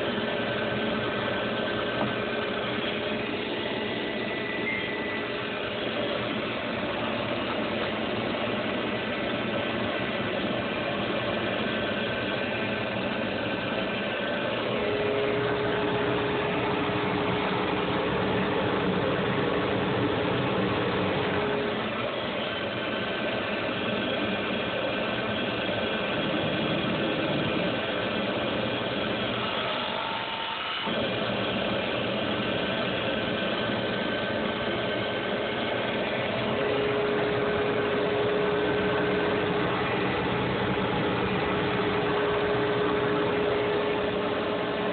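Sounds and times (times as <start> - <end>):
high machine whine: 0.0 - 44.9
lathe motor running: 0.0 - 44.9.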